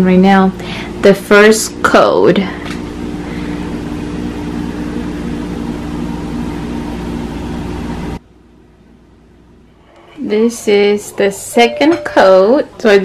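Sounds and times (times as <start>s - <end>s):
machine hum: 0.4s - 13.0s.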